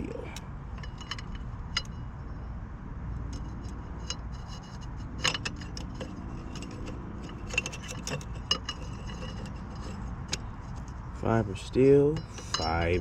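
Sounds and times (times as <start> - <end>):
clutch plates clinking: 0.0 - 2.2, 3.5 - 13.0
low steady hum: 0.0 - 13.0.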